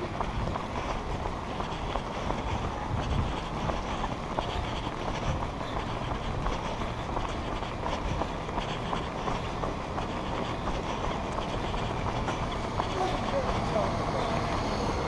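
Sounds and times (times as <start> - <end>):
footsteps on pavement: 0.0 - 15.0.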